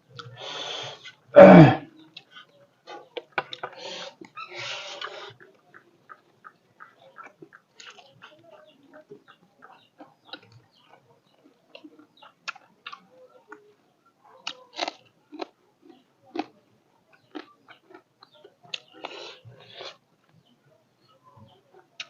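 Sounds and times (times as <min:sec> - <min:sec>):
person chewing food: 0:02.0 - 0:13.6, 0:14.3 - 0:20.4.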